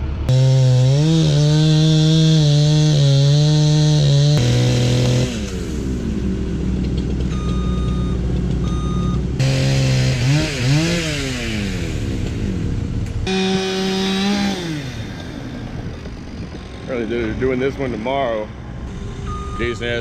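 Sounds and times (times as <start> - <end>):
chainsaw engine revving: 0.3 - 7.6, 8.4 - 18.6.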